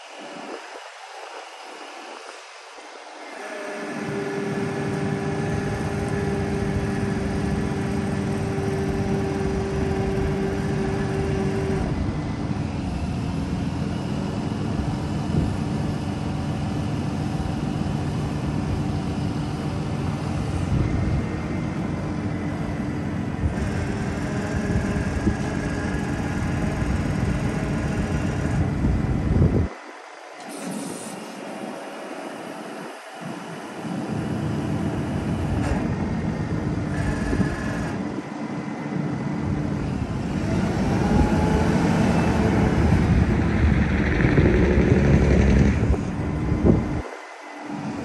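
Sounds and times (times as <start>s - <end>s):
hydraulic whine: 0.0s - 48.0s
diesel engine rumble: 3.7s - 48.0s.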